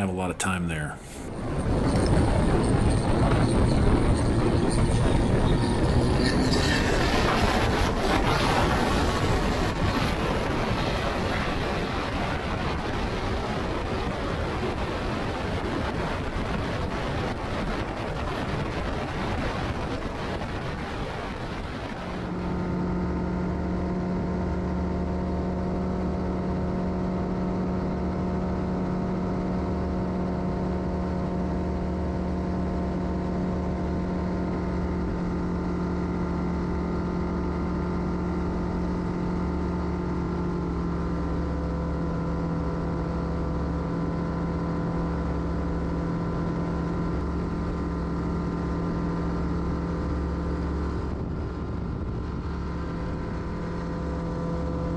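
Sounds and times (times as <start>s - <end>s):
airplane engine droning: 0.0s - 54.9s
rush of wind-like noise: 0.0s - 54.9s.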